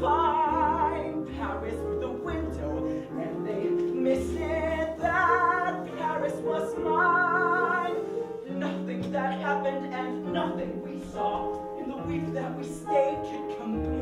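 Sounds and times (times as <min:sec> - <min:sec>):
instrumental accompaniment: 0:00.0 - 0:14.0
man singing with vibrato: 0:00.0 - 0:14.0.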